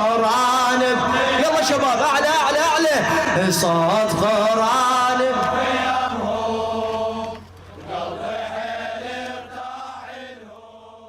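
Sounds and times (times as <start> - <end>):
men chanting a lament: 0.0 - 11.0.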